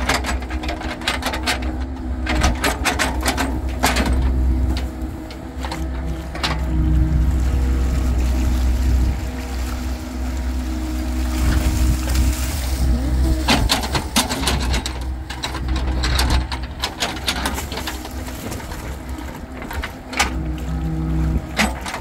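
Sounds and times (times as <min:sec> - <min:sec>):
bucket clanking and scraping in mud: 0:00.0 - 0:22.0
diesel engine humming: 0:00.0 - 0:22.0.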